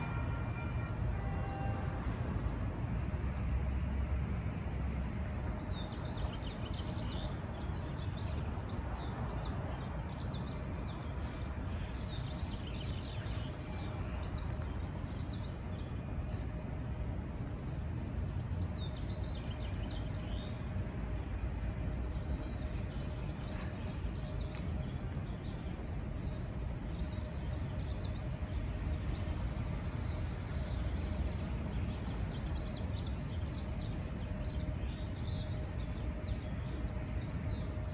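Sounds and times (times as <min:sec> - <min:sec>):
street ambience rumble: 0:00.0 - 0:37.9.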